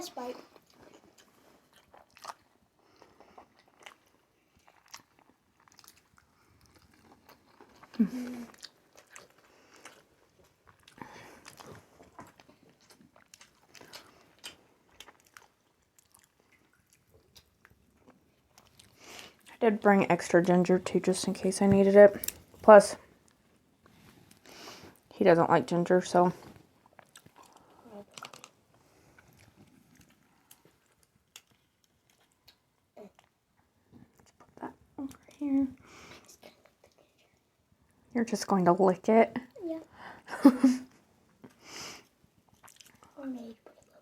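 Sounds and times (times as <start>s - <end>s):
faint chewing: 0.2s - 25.1s, 26.4s - 38.0s, 40.9s - 44.0s.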